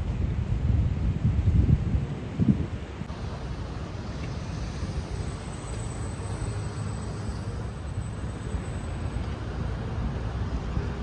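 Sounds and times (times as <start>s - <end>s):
boat engines low rumble: 1.8s - 11.0s.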